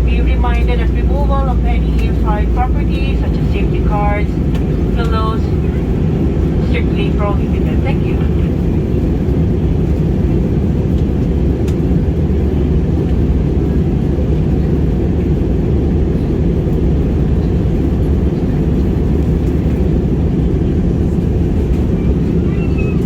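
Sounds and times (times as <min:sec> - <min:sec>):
jet engines rumbling in cabin: 0:00.0 - 0:23.0.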